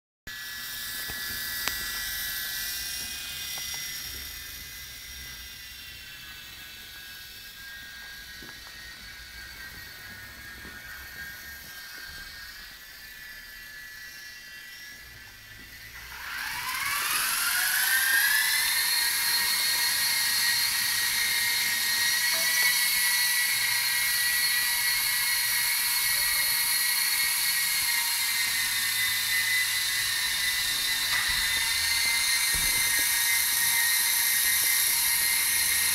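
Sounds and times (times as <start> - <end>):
toy helicopter rotor whine: 0.3 - 35.9.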